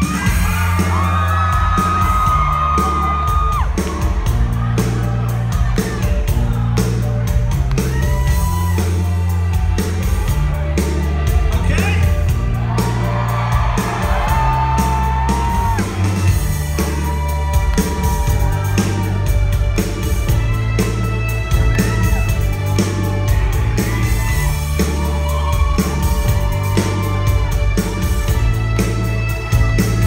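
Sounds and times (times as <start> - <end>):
synth-pop band playing live: 0.0 - 30.0.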